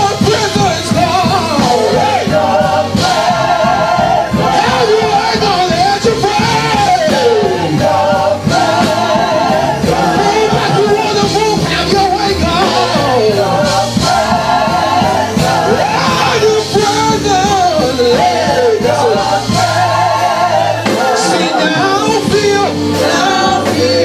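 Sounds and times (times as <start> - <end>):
band with steady drum beat: 0.0 - 24.0.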